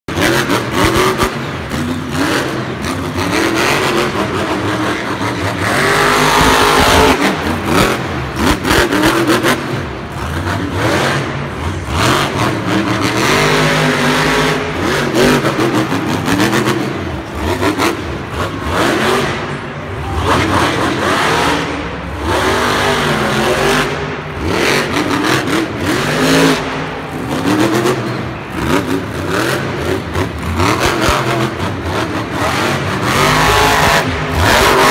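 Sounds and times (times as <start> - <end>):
truck engine revving hard: 0.0 - 34.9.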